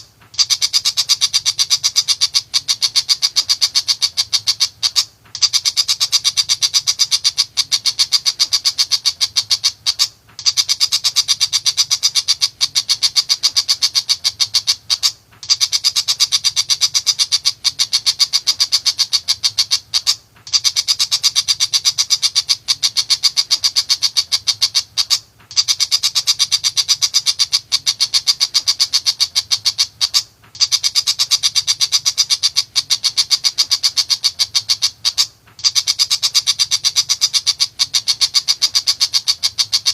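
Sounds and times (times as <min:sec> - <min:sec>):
shrike singing chattering runs: 0:00.0 - 0:39.9.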